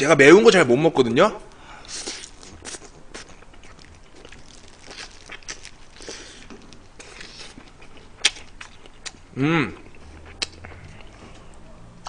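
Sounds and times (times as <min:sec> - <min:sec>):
chewing and mouth sounds: 0:01.8 - 0:11.8.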